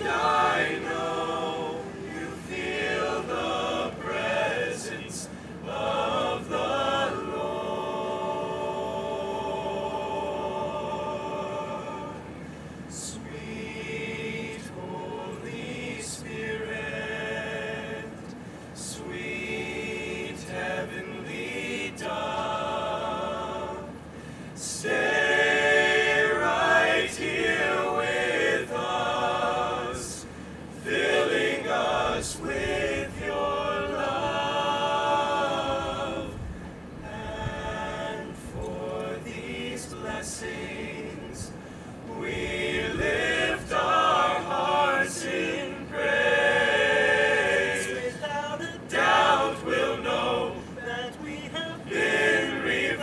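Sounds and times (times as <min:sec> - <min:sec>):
male a cappella group singing: 0:00.0 - 0:53.0.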